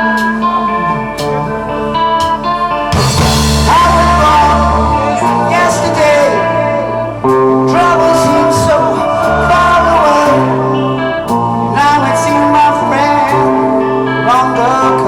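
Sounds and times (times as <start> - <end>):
bass notes: 0.0 - 15.0
distorted electric guitar: 0.0 - 15.0
person singing: 0.0 - 15.0.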